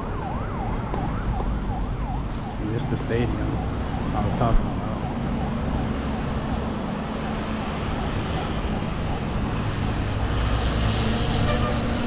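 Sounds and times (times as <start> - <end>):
distant city traffic: 0.0 - 12.0.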